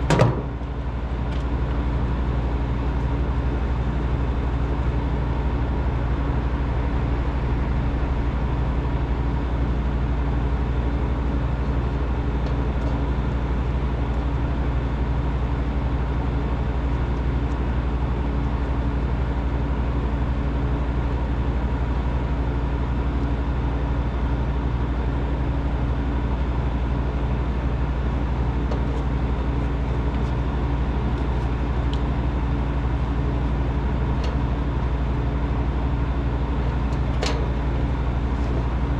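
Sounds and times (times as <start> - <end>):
machine droning and humming: 0.0 - 38.9.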